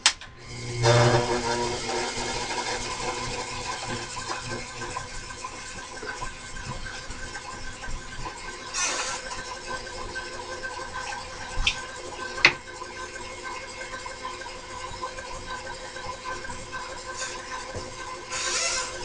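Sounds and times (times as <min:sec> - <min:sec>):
shop machinery humming: 0:00.0 - 0:13.6, 0:14.2 - 0:19.0.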